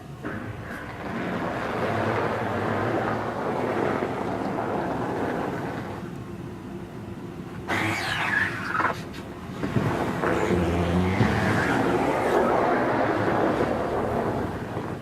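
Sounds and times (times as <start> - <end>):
tyres churning through snow: 0.0 - 6.2, 7.6 - 15.0
car engine working under load: 0.0 - 15.0.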